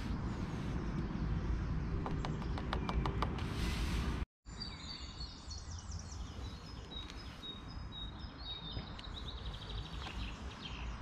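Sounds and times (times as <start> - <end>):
songbirds singing: 0.0 - 3.9, 4.5 - 11.0.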